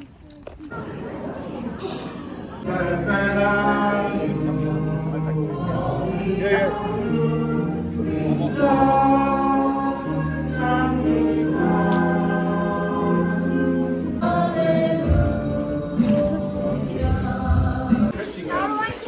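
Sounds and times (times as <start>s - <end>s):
choir singing held chords: 2.4s - 18.6s.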